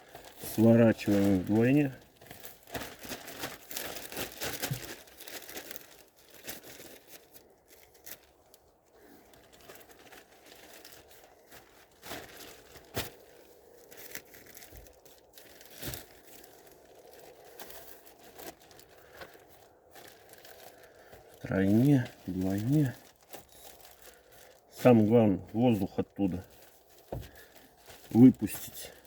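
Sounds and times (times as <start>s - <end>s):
plastic bag sharp crackles: 0.0s - 25.0s
plastic bag crinkling: 0.0s - 29.0s.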